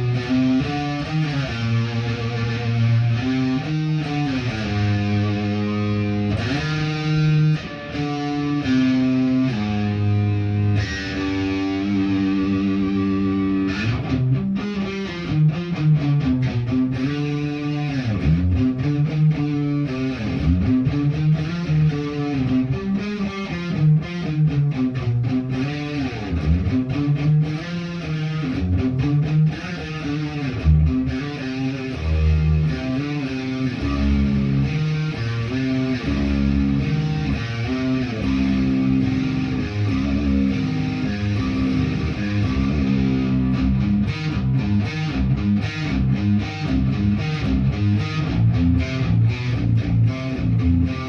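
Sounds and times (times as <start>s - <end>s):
guitar playing chords and notes: 0.0s - 51.0s.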